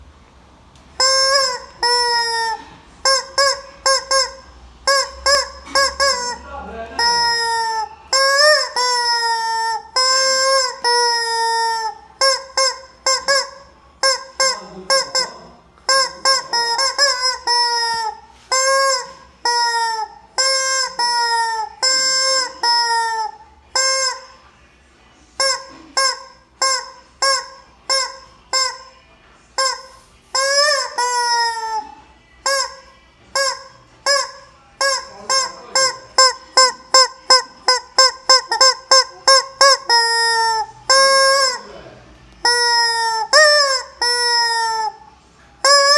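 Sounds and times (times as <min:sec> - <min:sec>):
rubber chicken toy squawking: 0:01.0 - 0:24.4, 0:25.4 - 0:29.0, 0:29.6 - 0:41.8, 0:42.4 - 0:45.9.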